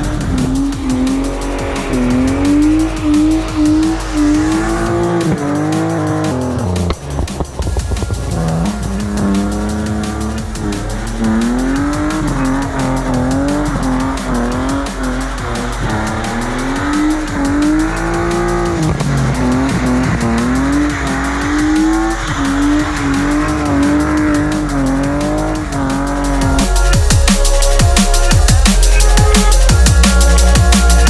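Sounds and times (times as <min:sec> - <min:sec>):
car engine at high revs: 0:00.0 - 0:31.0
fast electronic music: 0:00.0 - 0:31.0.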